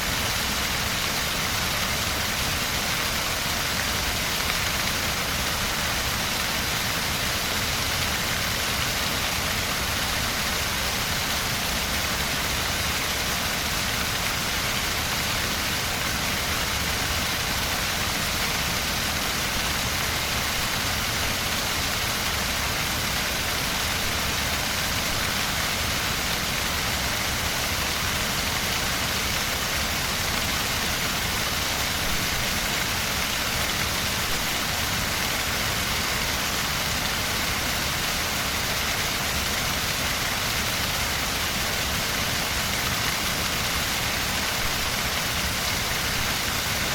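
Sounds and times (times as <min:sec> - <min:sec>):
water rushing over rocks: 0:00.0 - 0:46.9.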